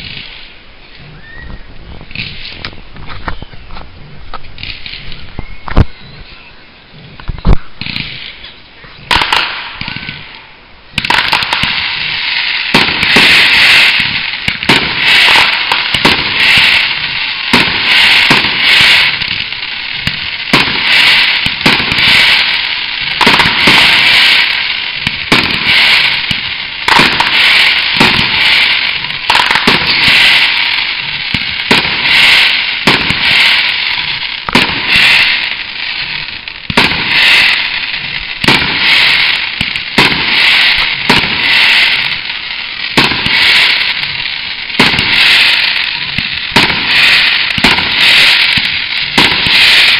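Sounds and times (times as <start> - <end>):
fireworks launches and bangs: 0.0 - 1.1, 2.0 - 5.9, 7.2 - 49.9
fireworks hissing crackle: 0.0 - 49.9.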